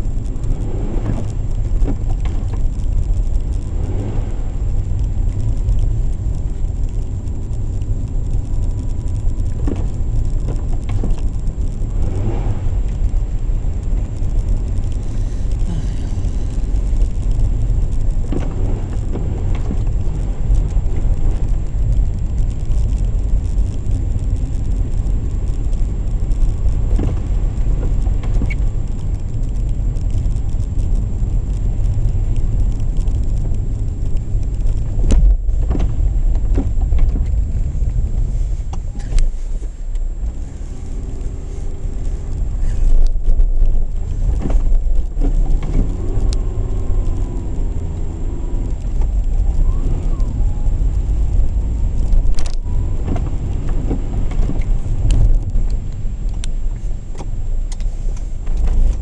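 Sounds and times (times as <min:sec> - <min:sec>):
low rumble of engine and tyres: 0:00.0 - 0:59.0.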